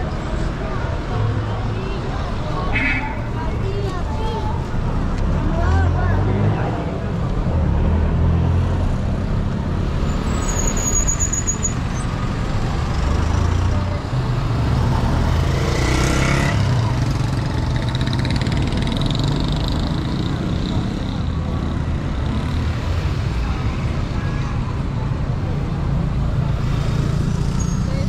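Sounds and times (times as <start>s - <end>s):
street traffic engine rumble: 0.0s - 28.0s.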